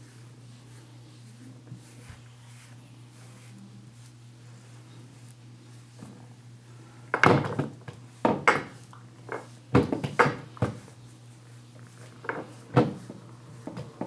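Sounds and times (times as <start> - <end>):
brush strokes through cat fur: 0.0 - 7.1, 7.8 - 9.7, 10.5 - 14.0.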